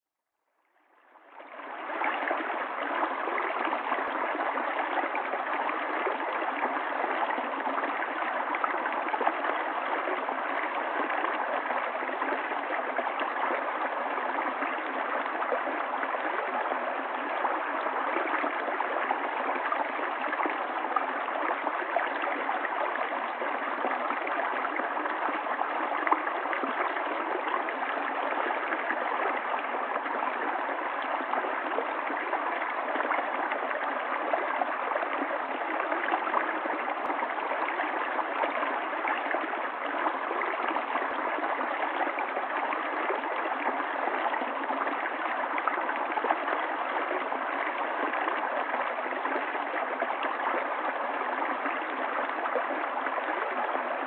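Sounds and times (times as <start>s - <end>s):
stream water gurgling: 0.8s - 54.0s.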